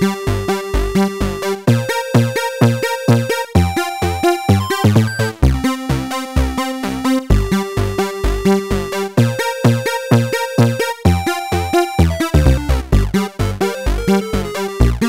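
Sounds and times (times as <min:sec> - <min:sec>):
upbeat electronic music: 0:00.0 - 0:15.0.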